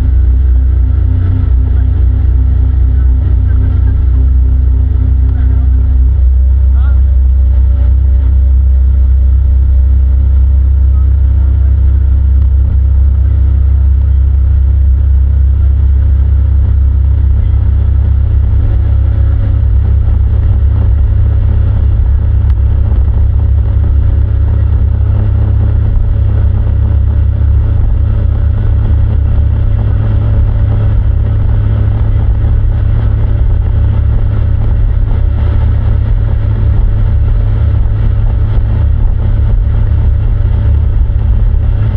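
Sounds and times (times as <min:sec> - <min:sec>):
motorboat engine rumbling: 0:00.0 - 0:41.9.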